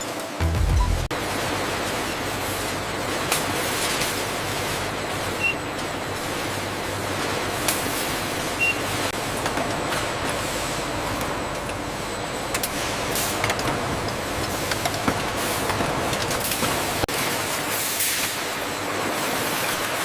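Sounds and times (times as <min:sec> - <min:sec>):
bottling line machine noise: 0:00.0 - 0:20.0.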